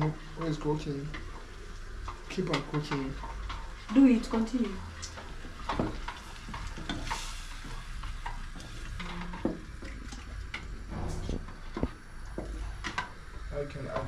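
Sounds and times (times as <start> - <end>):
food sizzling: 0.0 - 14.0.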